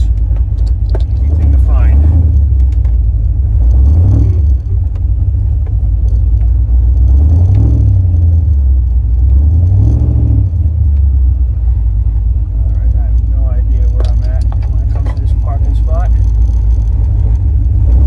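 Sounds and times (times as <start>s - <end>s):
engine rumble through exhaust: 0.0s - 18.0s.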